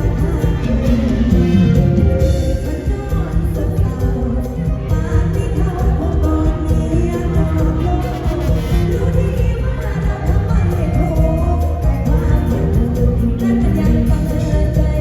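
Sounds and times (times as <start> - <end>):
live band music: 0.0 - 15.0
person singing: 0.0 - 15.0
pounding bass: 0.0 - 15.0.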